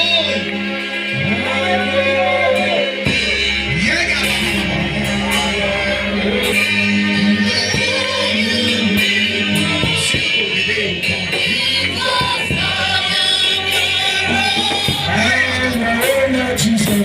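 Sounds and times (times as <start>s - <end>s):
band accompaniment: 0.0s - 17.0s
singing voices: 0.0s - 17.0s.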